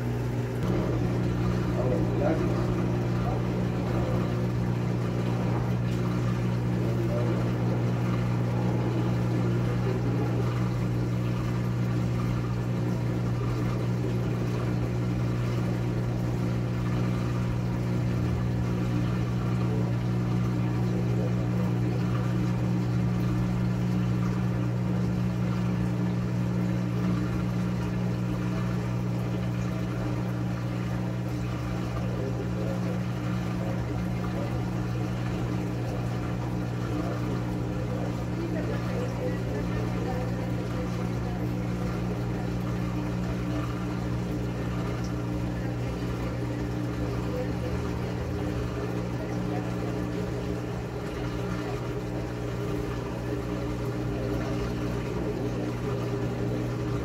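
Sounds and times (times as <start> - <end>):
washing machine humming: 0.0 - 57.0.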